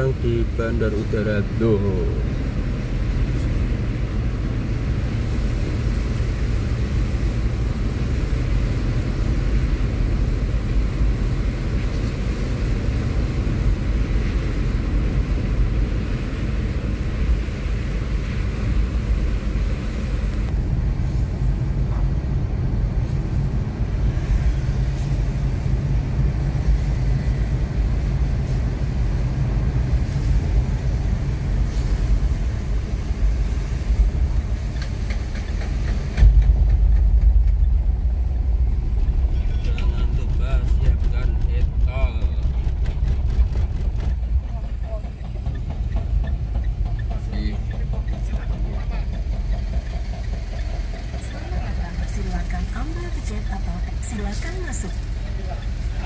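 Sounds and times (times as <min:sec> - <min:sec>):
car driving on wet road: 0:00.0 - 0:56.0.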